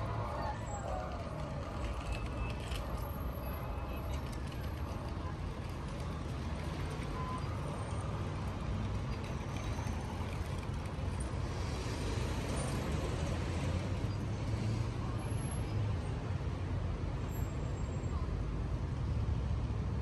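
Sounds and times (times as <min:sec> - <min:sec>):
passing cars and buses: 0:00.0 - 0:20.0.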